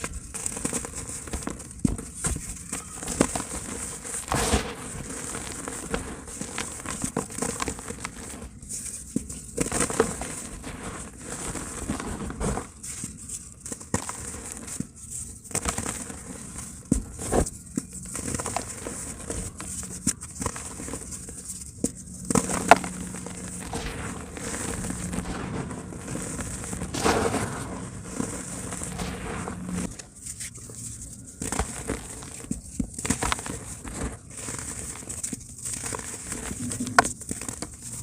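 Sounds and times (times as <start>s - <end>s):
dry cement crunching: 0.0s - 38.0s.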